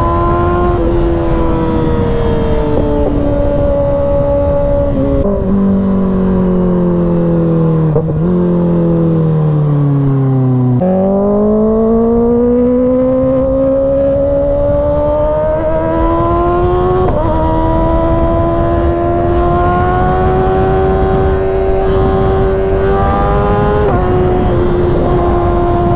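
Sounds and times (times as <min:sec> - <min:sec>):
motorcycle engine: 0:00.0 - 0:25.9.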